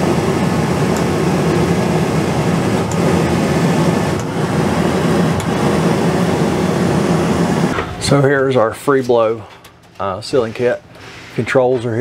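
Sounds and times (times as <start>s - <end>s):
air conditioner blower: 0.0s - 12.0s.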